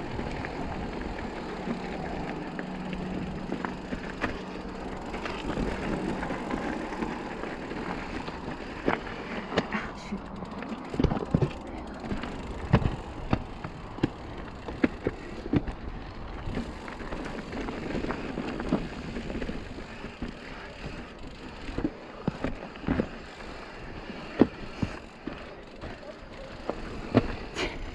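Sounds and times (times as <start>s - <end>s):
bike knocking and rattling on rocks: 0.0s - 27.9s
bike tyres rolling on dirt: 0.0s - 27.9s.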